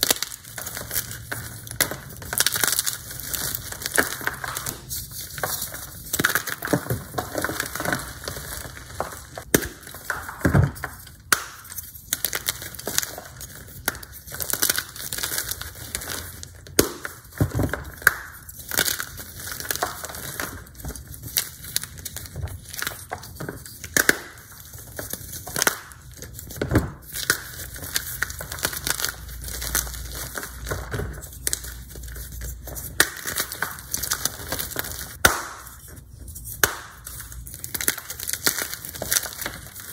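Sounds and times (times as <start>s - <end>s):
chalk blocks crunching and snapping: 0.0s - 39.9s.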